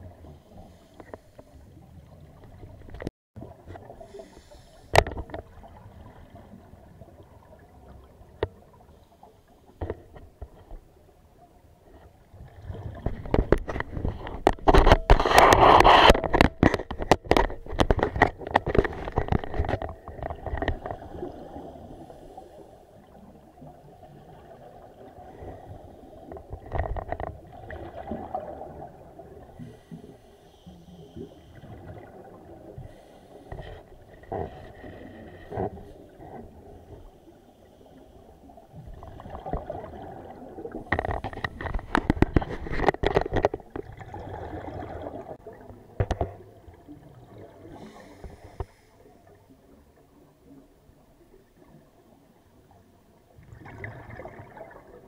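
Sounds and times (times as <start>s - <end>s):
underwater air bubbles: 0.0s - 55.0s
underwater gurgling: 0.0s - 55.0s.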